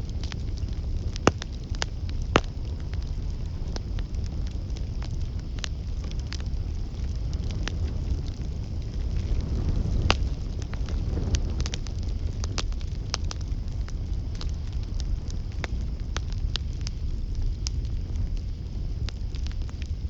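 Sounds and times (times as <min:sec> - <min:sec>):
campfire crackling: 0:00.0 - 0:20.0
low steady rumble: 0:00.0 - 0:20.0.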